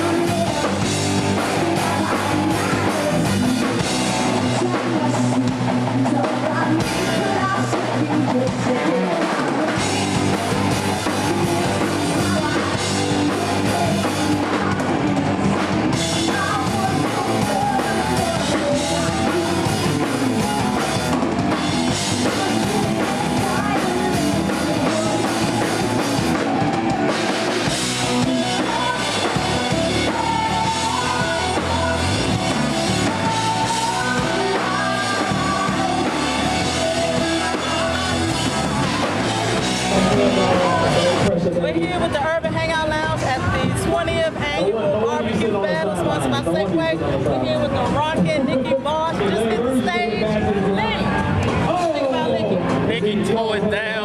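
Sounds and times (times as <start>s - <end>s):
electric guitar: 0.0s - 44.5s
drum kit: 0.0s - 44.6s
bass guitar: 0.0s - 54.0s.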